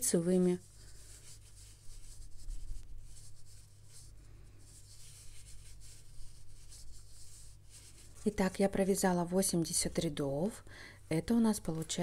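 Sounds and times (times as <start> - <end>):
yarn rubbing on needles: 0.0 - 12.0.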